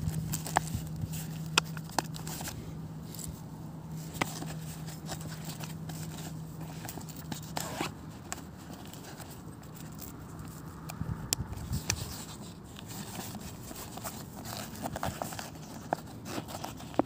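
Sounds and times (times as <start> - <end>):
fabric rustling: 0.0 - 10.7, 11.7 - 17.0.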